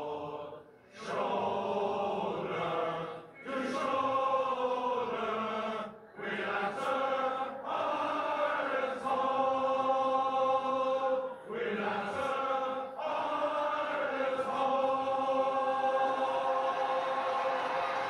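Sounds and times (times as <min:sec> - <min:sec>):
male choir singing an anthem: 0:00.0 - 0:18.0.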